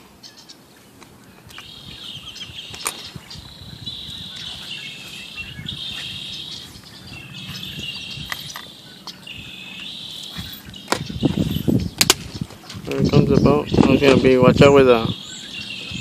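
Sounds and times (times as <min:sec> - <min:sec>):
animal chattering trills: 0:01.6 - 0:16.0.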